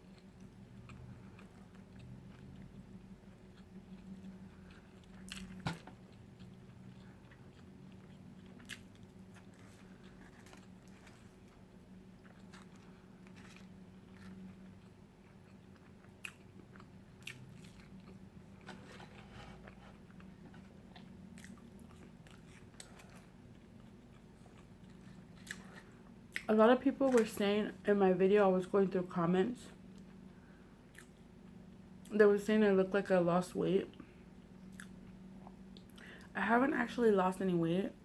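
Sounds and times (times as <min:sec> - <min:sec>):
steady low hum: 0:00.0 - 0:38.0
person chewing food: 0:00.1 - 0:26.5, 0:29.9 - 0:31.8, 0:34.0 - 0:36.3.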